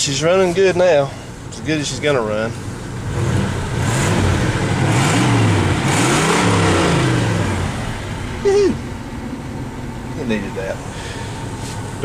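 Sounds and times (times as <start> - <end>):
car engine revving: 1.5 - 12.0.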